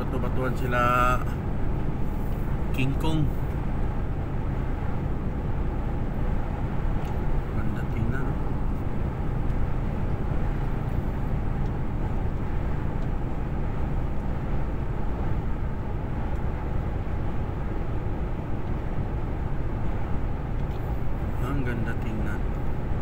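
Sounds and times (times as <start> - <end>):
road noise: 0.0 - 23.0
truck engine: 0.0 - 23.0.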